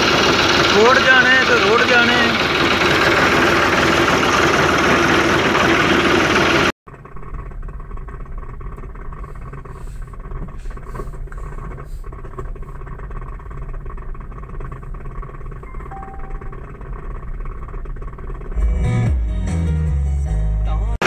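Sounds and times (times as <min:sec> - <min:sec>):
low rumble inside towed car: 0:00.0 - 0:21.0
tractor diesel engine running: 0:00.0 - 0:21.0.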